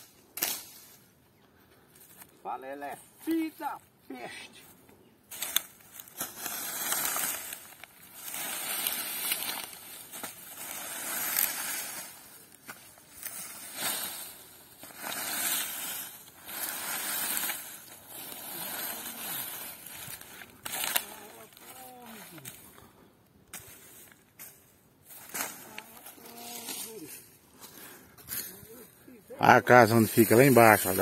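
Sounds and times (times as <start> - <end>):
rake rustling through dry stalks: 5.3 - 22.9, 23.5 - 31.0.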